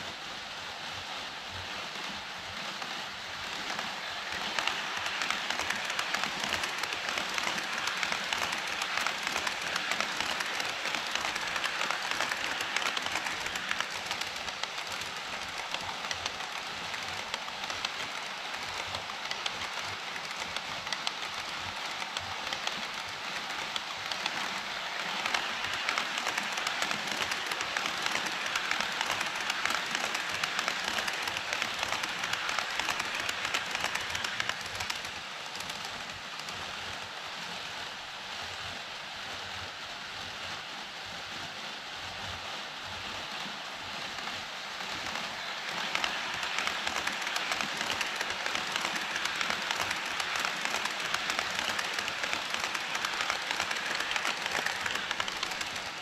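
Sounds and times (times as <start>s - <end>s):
model train wheels rattling: 3.3s - 37.0s, 44.8s - 56.0s.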